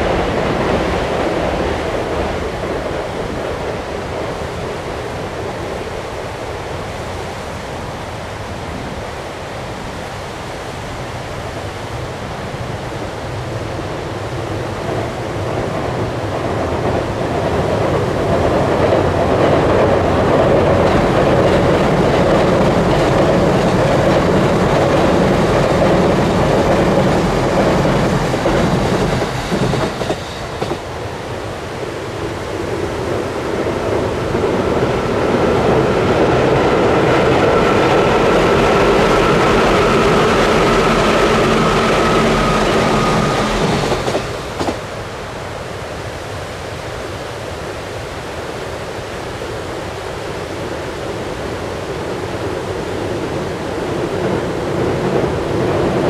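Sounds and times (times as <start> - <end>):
train rumbling over steel bridge: 0.0 - 56.0.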